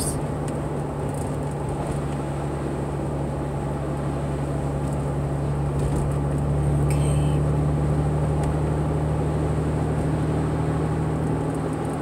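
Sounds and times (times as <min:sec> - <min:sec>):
car engine hum: 0:00.0 - 0:12.0
road noise: 0:00.0 - 0:12.0.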